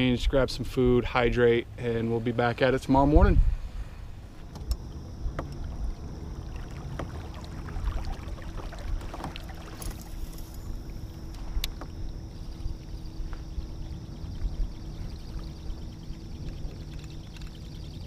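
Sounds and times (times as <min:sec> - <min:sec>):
faint steady hum: 0:00.0 - 0:18.0
water against kayak hull: 0:03.5 - 0:18.0.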